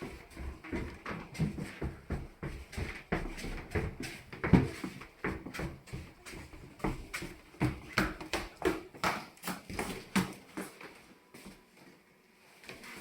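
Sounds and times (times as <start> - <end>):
knocks and thumps in a room: 0.0 - 10.5.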